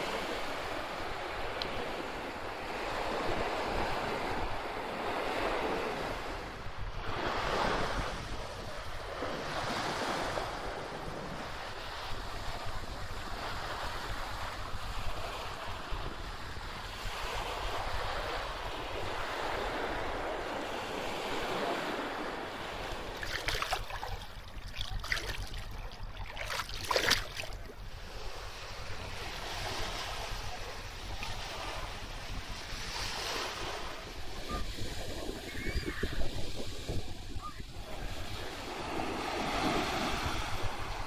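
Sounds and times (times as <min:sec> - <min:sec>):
sea waves washing onto beach: 0:00.0 - 0:41.0
wind rumbling on microphone: 0:00.0 - 0:41.0.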